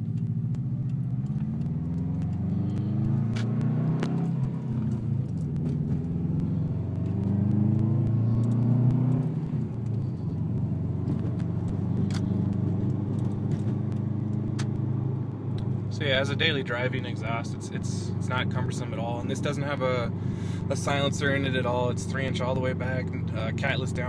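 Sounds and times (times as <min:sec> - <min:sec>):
car exhaust drone: 0:00.0 - 0:24.0.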